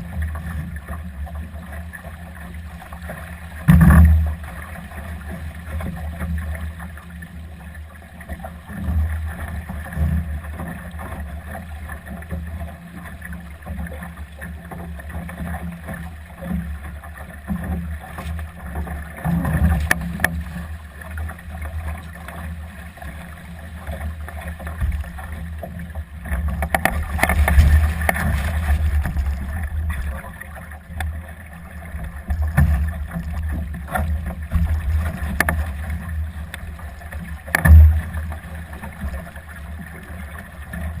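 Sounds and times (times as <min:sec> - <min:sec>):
water rushing along a hull: 0:00.0 - 0:41.0.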